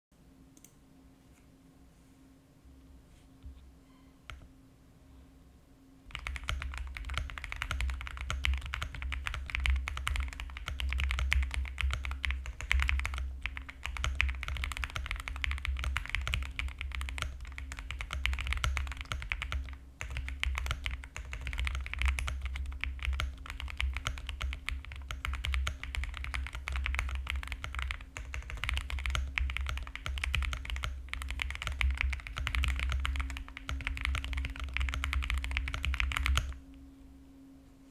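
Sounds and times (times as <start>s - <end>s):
fast typing on mechanical keyboard: 6.1s - 36.6s.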